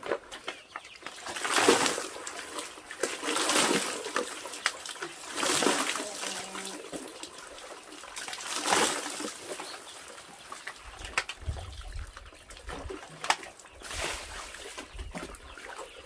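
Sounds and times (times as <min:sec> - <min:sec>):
water splashing onto ground: 0:00.0 - 0:15.4.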